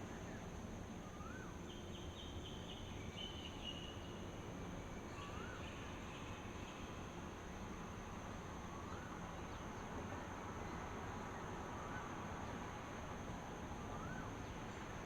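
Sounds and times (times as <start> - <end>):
noisy hiss: 0.0 - 15.0.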